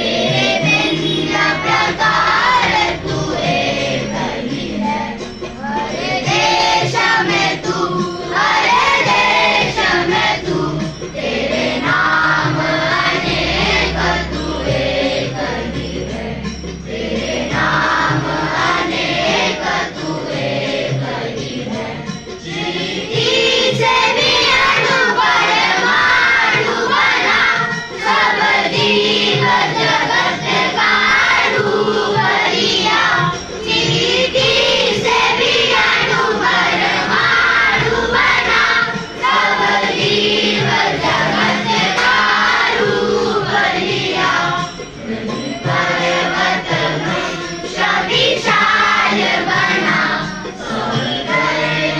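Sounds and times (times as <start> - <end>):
children singing in unison: 0.0 - 51.9.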